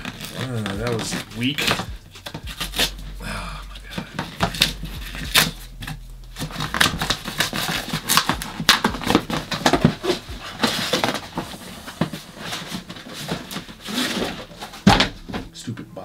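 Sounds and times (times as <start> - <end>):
cardboard box being torn open: 0.0 - 3.0, 4.0 - 15.2.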